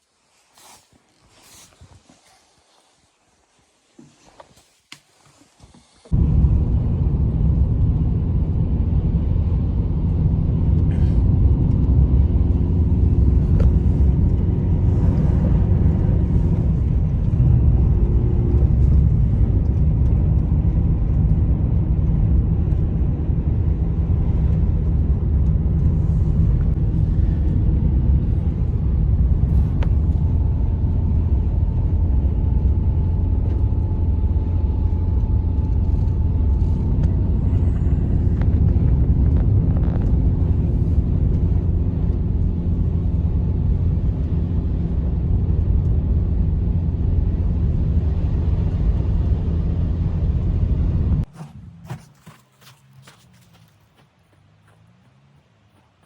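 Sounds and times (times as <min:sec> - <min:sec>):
wind buffeting microphone: 0:06.1 - 0:52.1.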